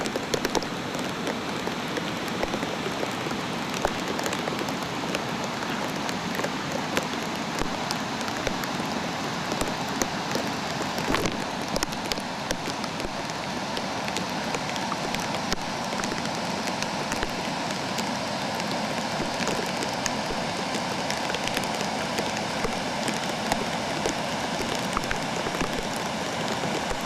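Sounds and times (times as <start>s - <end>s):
raindrops clicking near microphone: 0.0s - 27.0s
steady rain falling: 0.0s - 27.0s.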